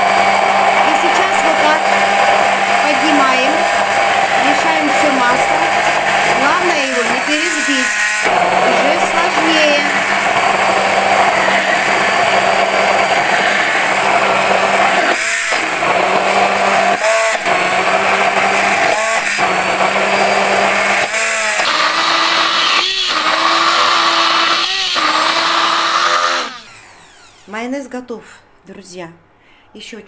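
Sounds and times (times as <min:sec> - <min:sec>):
immersion blender running: 0:00.0 - 0:27.6.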